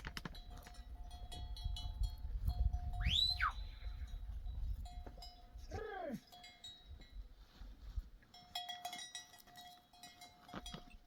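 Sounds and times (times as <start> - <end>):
sheep bells tinkling: 0.2 - 11.0.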